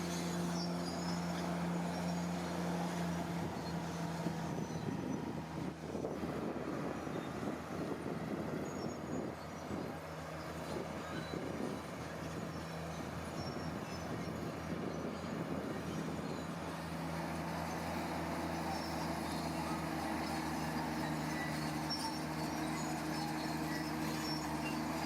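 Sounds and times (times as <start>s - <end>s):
construction machinery engine running: 0.0s - 25.0s.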